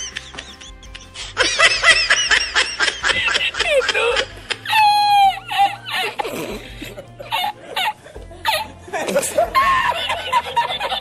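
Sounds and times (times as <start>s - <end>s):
man laughing in high-pitched bursts: 0.0s - 11.0s.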